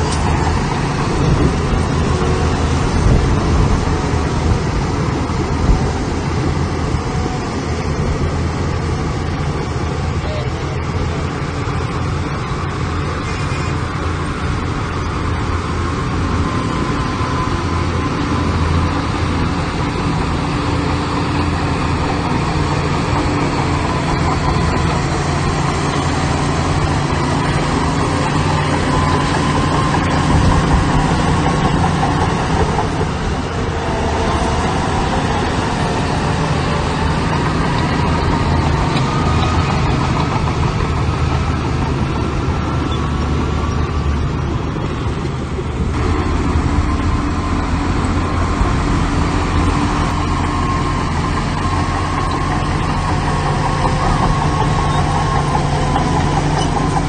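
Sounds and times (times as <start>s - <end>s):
heavy machinery diesel engines running: 0.0s - 57.0s.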